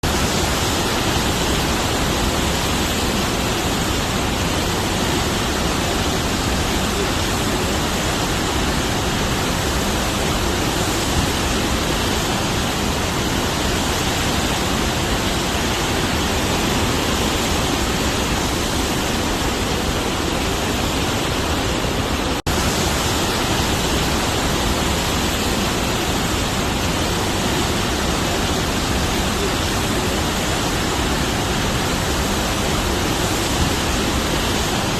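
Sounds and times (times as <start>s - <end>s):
water rushing: 0.0s - 34.9s.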